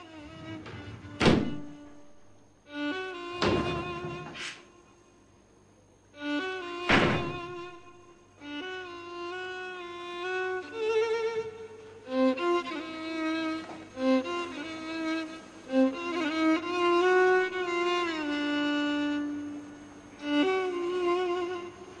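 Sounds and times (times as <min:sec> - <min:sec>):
slow violin melody: 0:00.0 - 0:05.2, 0:06.1 - 0:22.0.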